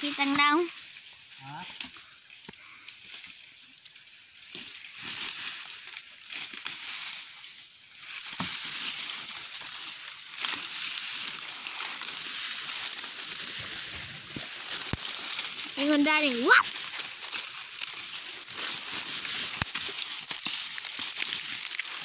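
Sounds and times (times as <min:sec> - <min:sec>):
leaves and branches rustling: 0:00.0 - 0:22.0
twigs snapping: 0:01.7 - 0:22.0.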